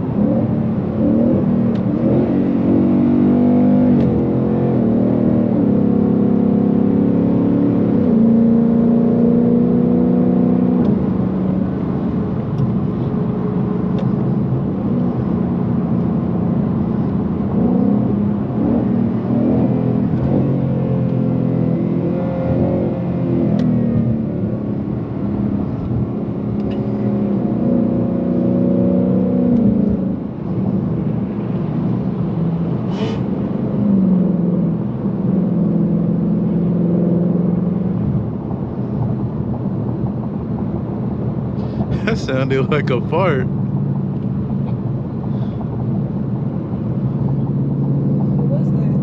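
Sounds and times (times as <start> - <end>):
car engine accelerating: 0.0 - 49.0
road rumble: 0.0 - 49.0.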